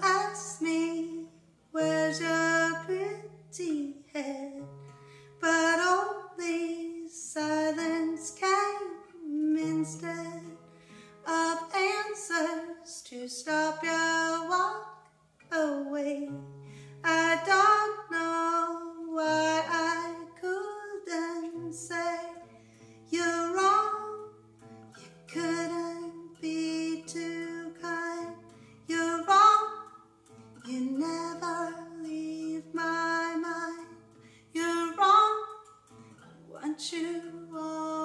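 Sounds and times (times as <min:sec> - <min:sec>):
acoustic guitar: 0:00.0 - 0:38.0
woman singing: 0:00.0 - 0:38.0.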